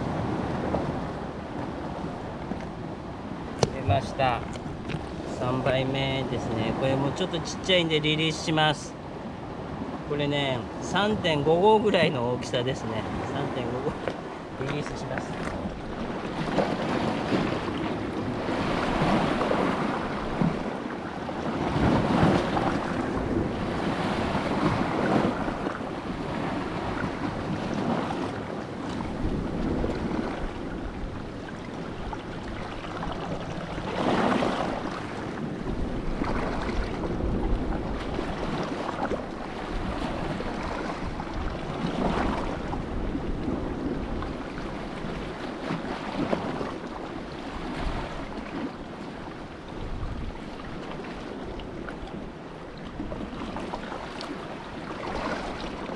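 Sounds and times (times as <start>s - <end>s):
wind buffeting microphone: 0.0s - 7.2s, 9.0s - 46.8s, 49.7s - 54.0s
waves washing on shore: 0.0s - 55.9s.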